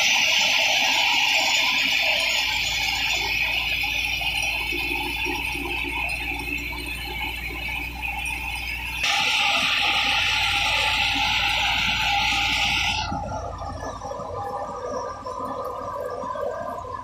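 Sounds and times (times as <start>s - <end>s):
thresher machine whirring: 0.0s - 15.3s.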